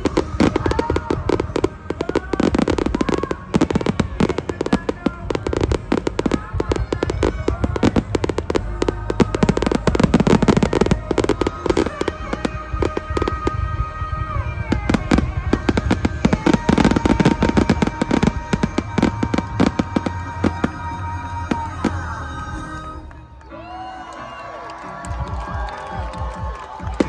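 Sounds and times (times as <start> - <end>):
fireworks bursting and crackling: 0.0 - 23.1, 25.2 - 27.0
music playing: 0.0 - 27.0.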